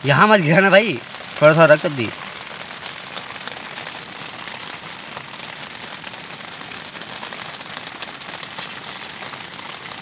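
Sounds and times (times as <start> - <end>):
heavy rain on a tent: 0.0 - 10.0.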